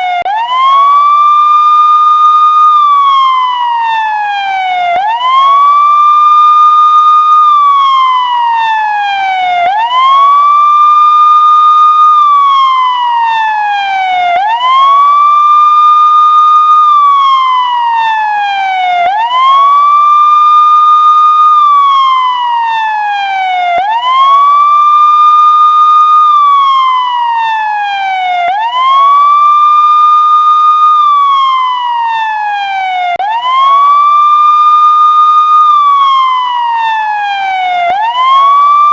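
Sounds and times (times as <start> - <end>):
emergency siren wailing: 0.0 - 38.9.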